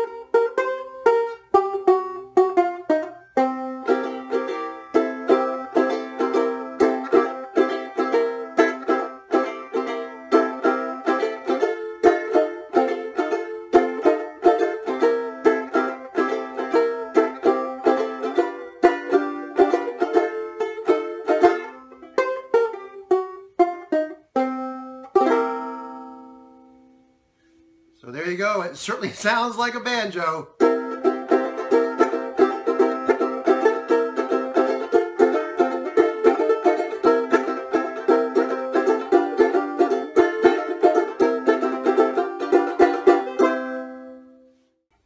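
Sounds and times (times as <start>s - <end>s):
banjo ukulele plucked notes: 0.0s - 27.8s, 30.6s - 44.7s.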